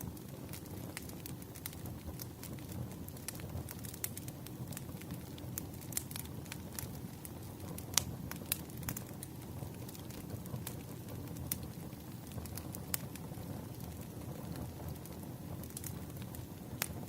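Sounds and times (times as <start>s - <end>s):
low rumble of burning logs: 0.0s - 17.0s
wood fire crackling: 0.0s - 17.0s.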